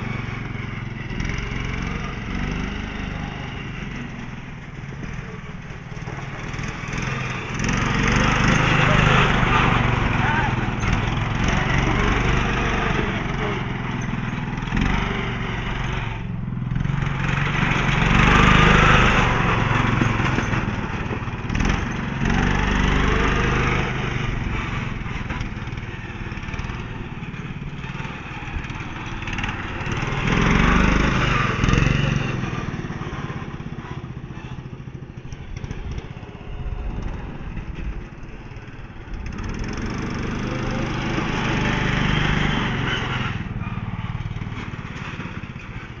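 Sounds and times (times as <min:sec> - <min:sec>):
riding lawnmower engine running: 0:00.0 - 0:46.0.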